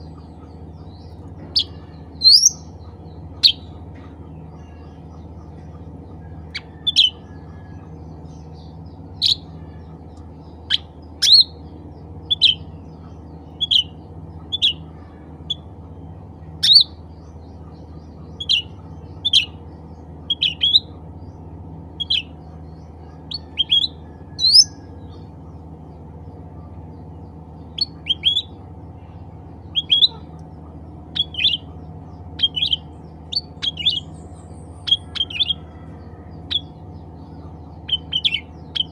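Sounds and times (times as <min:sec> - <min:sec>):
bird chirps: 0:00.0 - 0:38.9
low background hum: 0:00.0 - 0:38.9.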